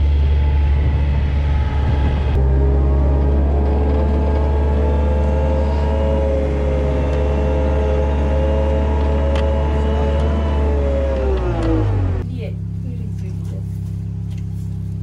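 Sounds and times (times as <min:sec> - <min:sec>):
large engine droning and whining: 0:00.0 - 0:15.0.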